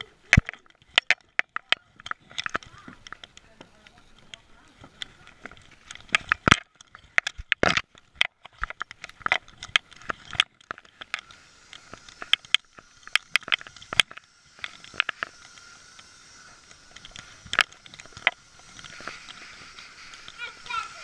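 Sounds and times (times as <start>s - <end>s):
camera knocking and rattling: 0.3s - 15.7s, 16.6s - 20.4s.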